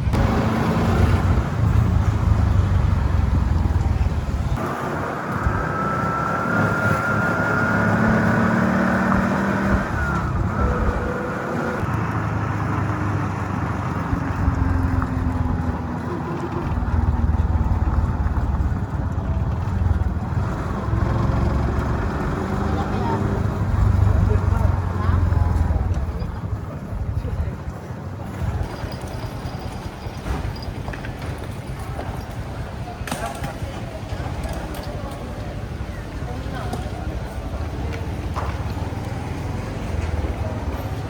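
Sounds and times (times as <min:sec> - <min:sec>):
vehicle engine and road rumble: 0:00.0 - 0:41.0.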